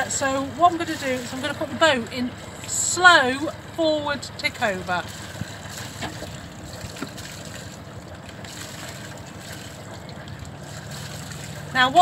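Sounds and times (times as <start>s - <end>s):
diesel engine ticking over: 0.0s - 12.0s.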